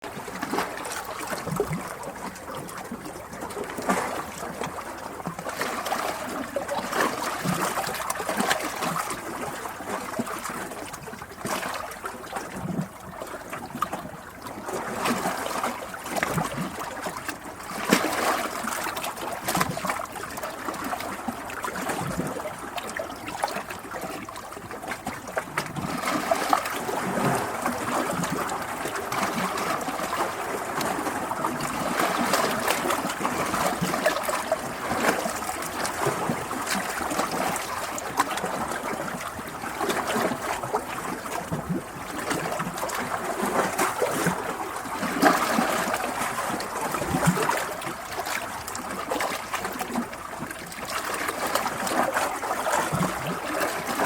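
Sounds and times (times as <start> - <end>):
small water splashes: 0.0 - 54.0
water trickling and gurgling: 0.0 - 54.0.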